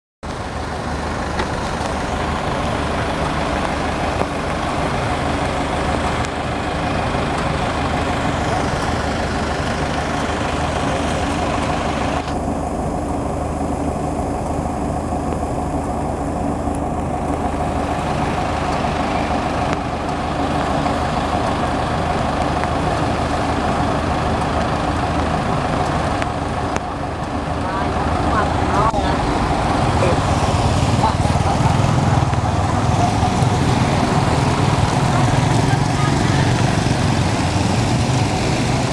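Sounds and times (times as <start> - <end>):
road noise: 0.2 - 38.9
vehicle engines idling: 0.2 - 38.9.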